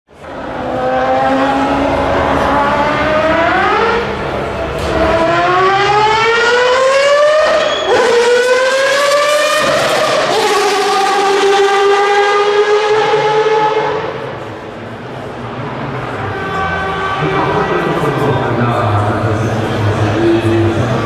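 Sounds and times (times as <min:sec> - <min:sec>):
rotary engine accelerating hard: 0:00.1 - 0:21.0.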